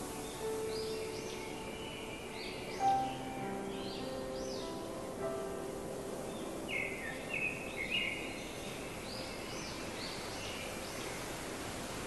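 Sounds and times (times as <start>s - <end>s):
songbird chirping: 0.0s - 12.0s
steady outdoor hiss: 0.0s - 12.0s.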